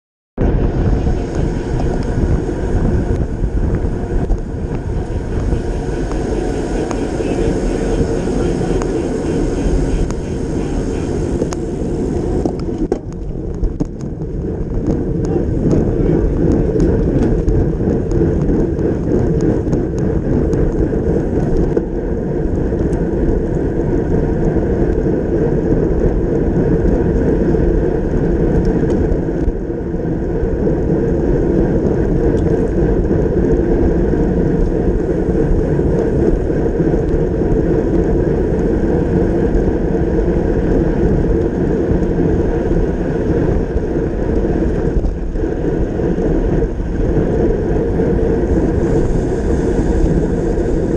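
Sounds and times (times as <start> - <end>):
road rumble: 0.4 - 50.9
wind rush on microphone: 0.4 - 50.9.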